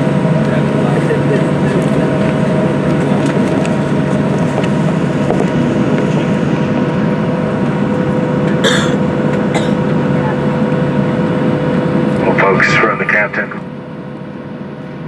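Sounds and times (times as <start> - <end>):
aircraft cabin drone: 0.0 - 15.0
steady mid-pitched hum: 0.0 - 15.0.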